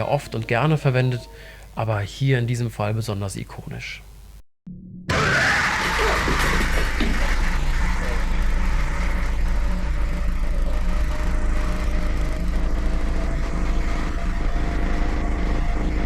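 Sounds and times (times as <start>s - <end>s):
low mechanical hum: 0.0s - 4.4s, 5.8s - 16.0s.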